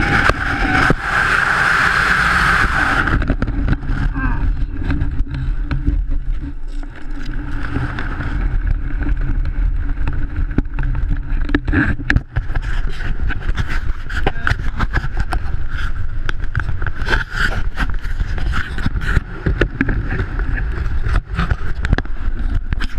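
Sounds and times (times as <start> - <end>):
wind rushing over camera: 0.0 - 22.9
camera knocks and scrapes: 3.1 - 22.9.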